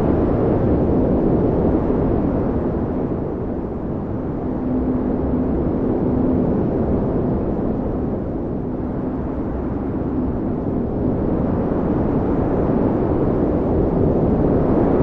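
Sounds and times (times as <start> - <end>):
blizzard wind rumbling: 0.0 - 15.0
faint wind howling: 0.0 - 15.0.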